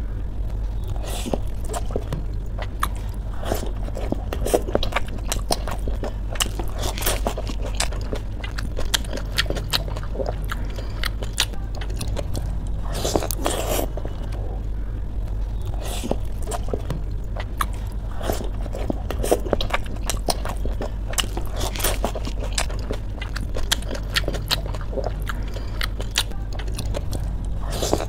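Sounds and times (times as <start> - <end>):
low hum: 0.0 - 28.0
crisp shells cracking and crunching: 0.8 - 14.4, 15.3 - 28.0.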